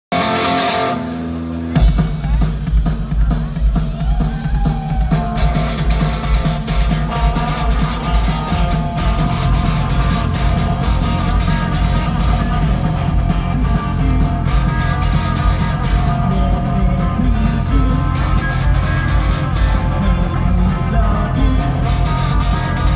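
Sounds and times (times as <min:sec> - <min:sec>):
live rock band playing: 0:00.1 - 0:22.9.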